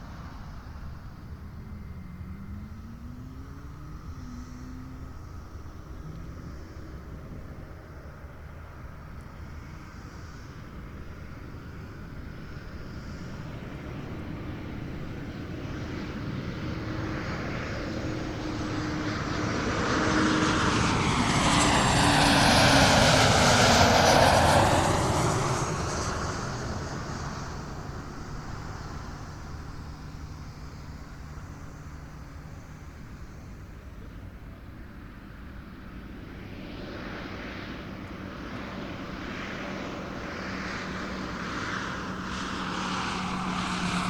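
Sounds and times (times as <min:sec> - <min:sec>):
airliner passing overhead: 0:00.0 - 0:44.0.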